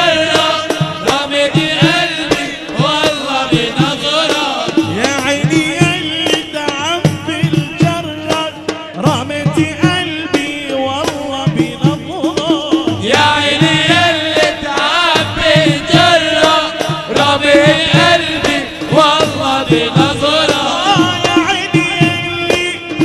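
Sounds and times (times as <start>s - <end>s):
man singing ornamented melody: 0.0s - 23.0s
steady percussion beats: 0.0s - 23.0s.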